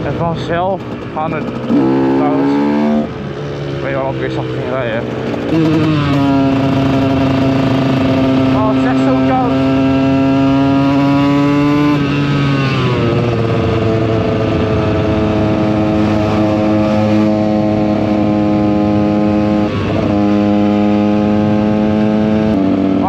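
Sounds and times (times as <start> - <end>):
two-stroke motorcycle engine running: 0.0 - 23.0.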